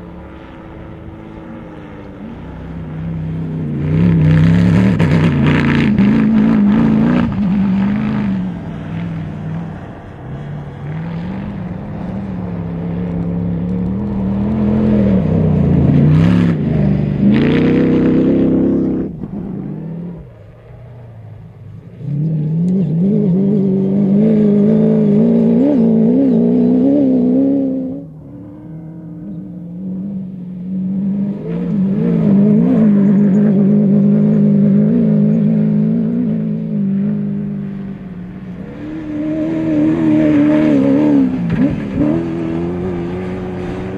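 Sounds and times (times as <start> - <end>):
buggy engines revving hard: 0.0 - 43.9.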